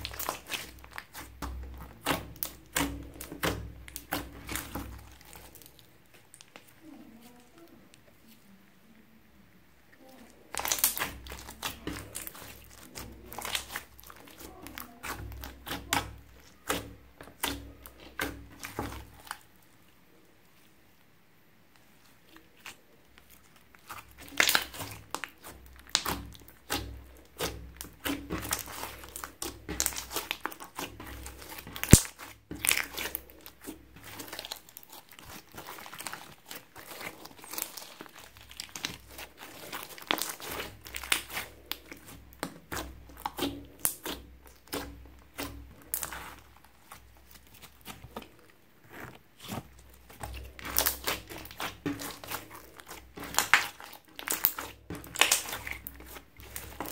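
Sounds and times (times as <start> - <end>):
slime crackling and popping: 0.0 - 7.8, 10.0 - 19.9, 22.2 - 56.9.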